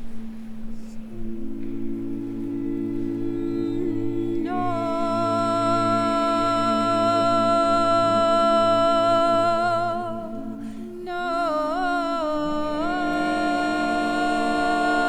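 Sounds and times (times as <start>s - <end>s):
voices humming and singing drone: 0.0s - 15.0s.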